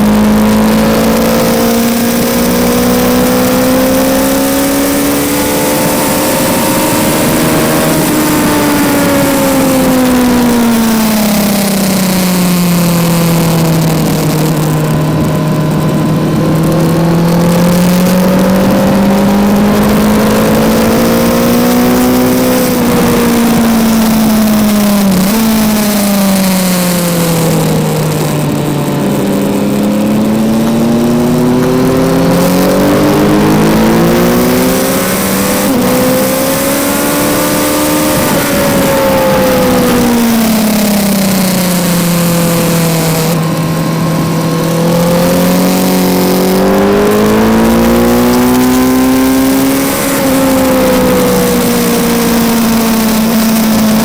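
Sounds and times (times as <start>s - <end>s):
motorcycle engine revving: 0.0s - 54.0s
wind noise rushing: 0.2s - 54.0s.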